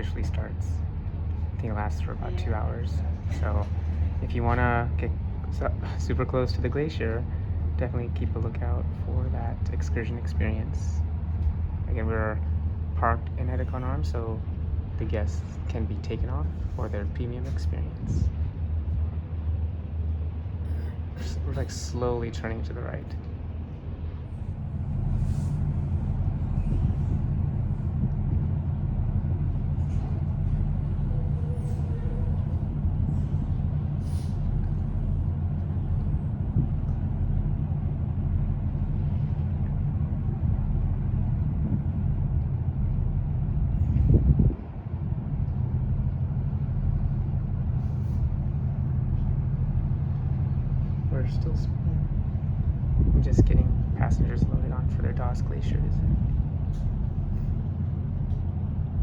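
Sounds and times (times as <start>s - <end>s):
ship engines droning: 0.0s - 59.0s.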